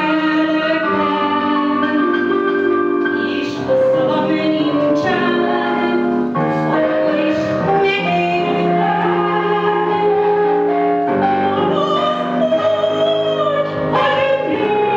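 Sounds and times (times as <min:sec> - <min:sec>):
woman singing into microphone: 0:00.0 - 0:02.4, 0:03.0 - 0:10.5, 0:11.1 - 0:14.9
instrumental accompaniment: 0:00.0 - 0:14.9.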